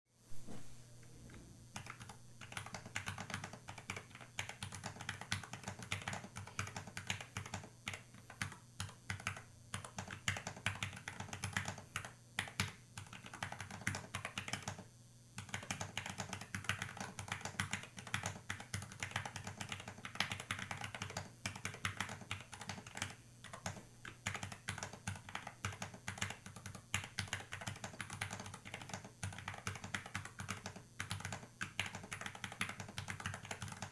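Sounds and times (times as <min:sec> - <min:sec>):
typing on mechanical keyboard: 0:01.8 - 0:33.9.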